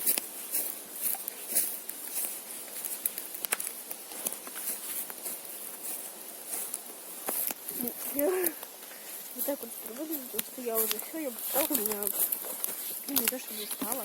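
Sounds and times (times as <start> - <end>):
footsteps through undergrowth: 0.0 - 14.0
twigs and dry leaves crackling: 0.0 - 14.0.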